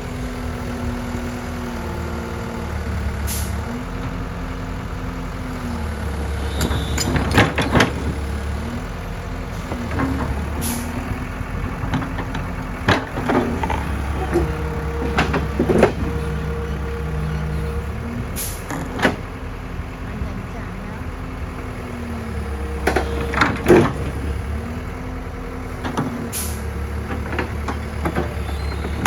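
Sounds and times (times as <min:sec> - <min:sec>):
heavy vehicle engine running: 0:00.0 - 0:29.0.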